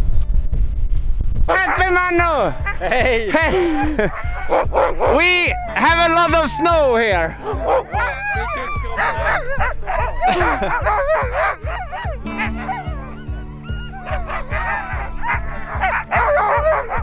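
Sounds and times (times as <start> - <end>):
background music with beat: 0.0 - 17.0
huskies yelping and howling: 1.5 - 17.0.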